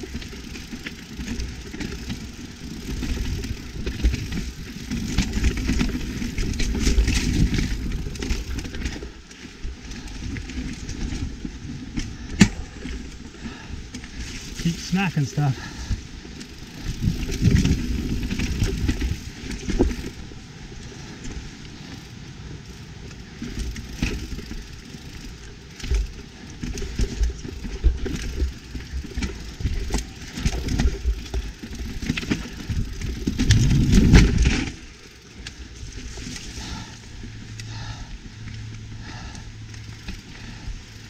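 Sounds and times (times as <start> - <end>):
bike tyres rumbling over dirt: 0.0 - 41.0.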